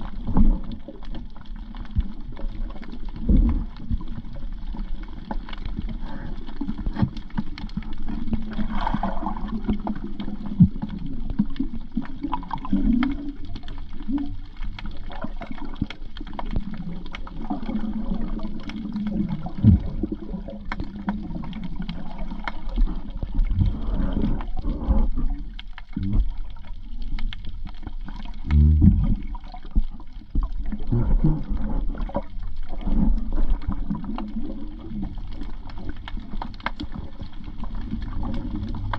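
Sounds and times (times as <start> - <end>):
low gurgling: 0.0 - 38.9
muffled underwater water movement: 0.0 - 38.9.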